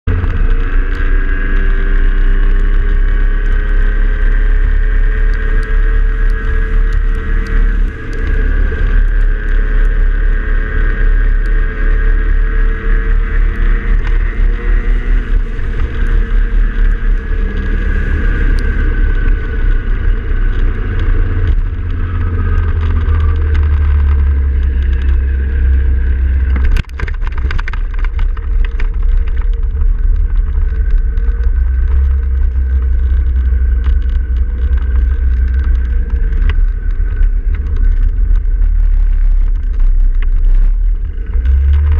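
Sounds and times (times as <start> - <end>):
road noise: 0.0 - 41.9
vehicle engine running: 0.0 - 41.9
wind buffeting microphone: 0.1 - 41.9.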